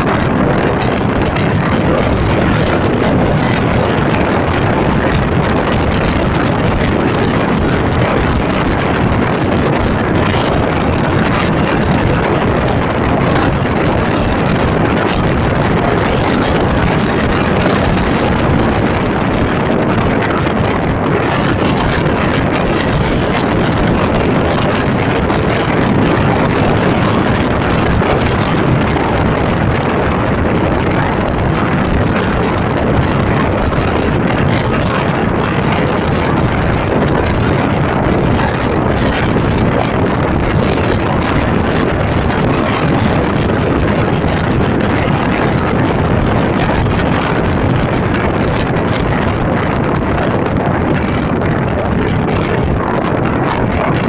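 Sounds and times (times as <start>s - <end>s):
vehicle running noise: 0.0s - 54.0s
wind buffeting microphone: 0.0s - 54.0s.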